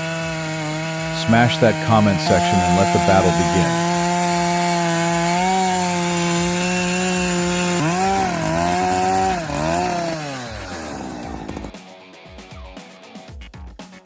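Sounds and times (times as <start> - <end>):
chainsaw at full throttle: 0.0 - 11.8.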